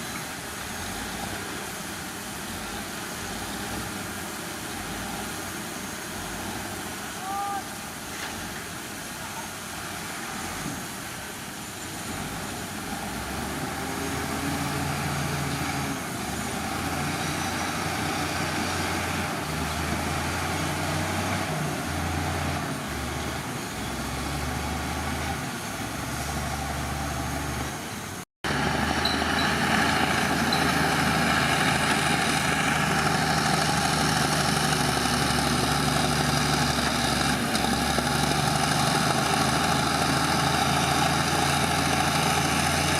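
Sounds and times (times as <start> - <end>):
heavy machinery diesel engines: 0.0 - 42.9.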